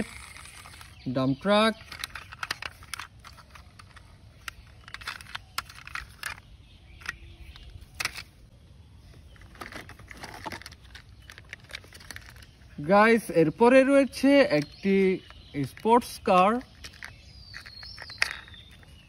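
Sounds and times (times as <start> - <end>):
plastic toys clicking and knocking: 0.0 - 8.3, 9.3 - 12.7, 14.2 - 19.0.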